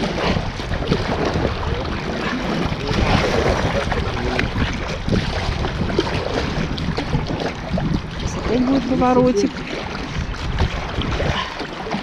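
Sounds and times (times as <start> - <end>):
river water splashing around boat: 0.0 - 12.0
wind rumbling on microphone: 0.0 - 12.0.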